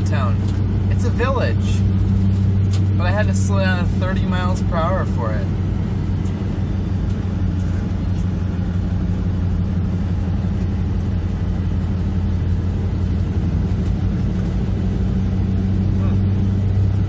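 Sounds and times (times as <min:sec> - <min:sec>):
constant low hum: 0:00.0 - 0:17.0
vehicle engine and road noise: 0:00.0 - 0:17.0.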